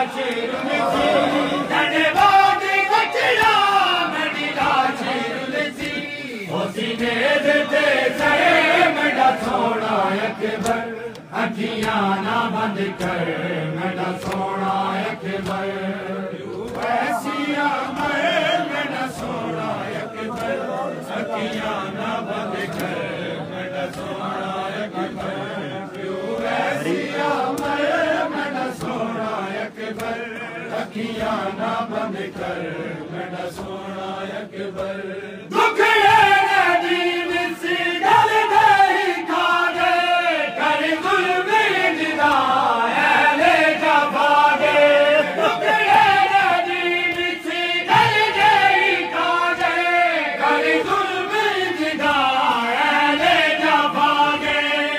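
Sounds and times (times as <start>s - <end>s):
men chanting in unison: 0.0s - 54.9s
rhythmic chest-beating slaps: 0.0s - 54.9s.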